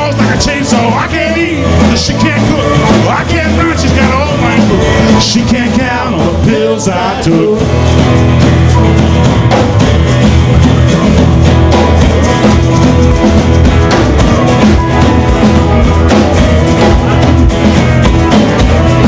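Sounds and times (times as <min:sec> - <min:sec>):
drum kit beat: 0:00.0 - 0:19.0
electric guitar: 0:00.0 - 0:19.0.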